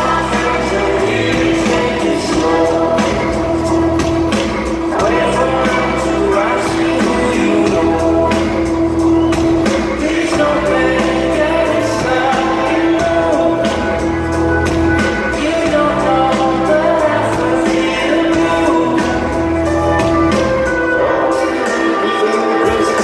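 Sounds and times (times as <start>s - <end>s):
person singing: 0.0s - 14.4s, 15.0s - 23.0s
bass: 0.0s - 23.0s
drums beating: 0.0s - 23.0s.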